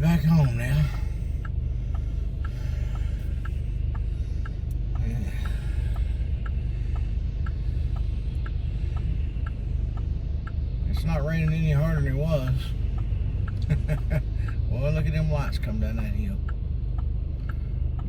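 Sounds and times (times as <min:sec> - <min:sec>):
low engine rumble: 0:00.0 - 0:18.0
turn signal ticking: 0:00.0 - 0:18.0.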